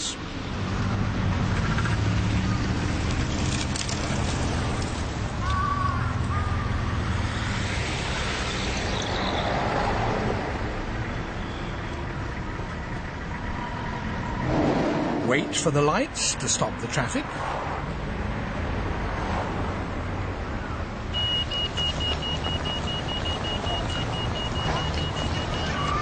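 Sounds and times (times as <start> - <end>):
car engines running: 0.0 - 26.0.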